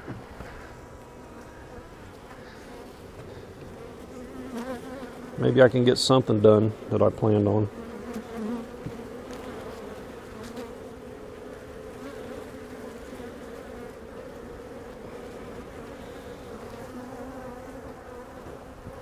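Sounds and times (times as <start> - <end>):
honey bees buzzing: 0.0 - 19.0.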